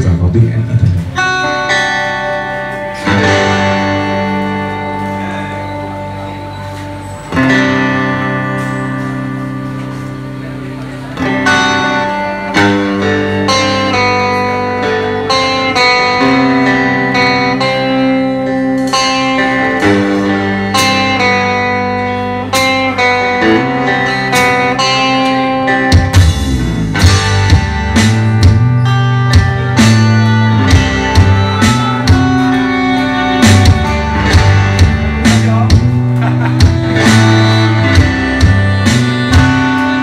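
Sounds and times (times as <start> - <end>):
bass guitar: 0.0 - 40.0
drums: 0.0 - 40.0
electric guitar: 0.0 - 40.0.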